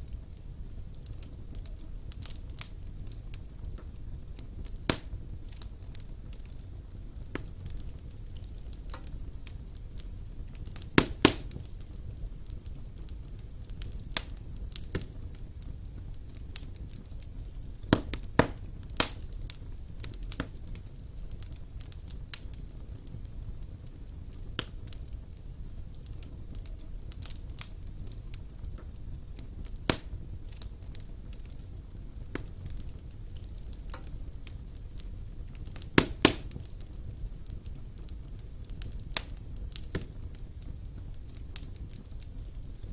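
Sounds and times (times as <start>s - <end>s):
fire crackling: 0.0s - 42.9s
low rumble of flames: 0.0s - 42.9s
sharp pops of fire: 0.0s - 42.9s.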